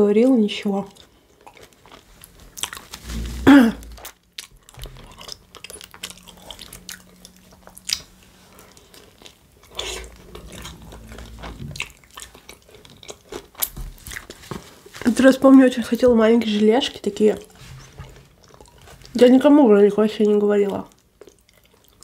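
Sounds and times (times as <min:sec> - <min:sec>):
biting and chewing food: 0:00.2 - 0:03.2, 0:03.8 - 0:15.1, 0:17.1 - 0:19.6, 0:20.2 - 0:22.0.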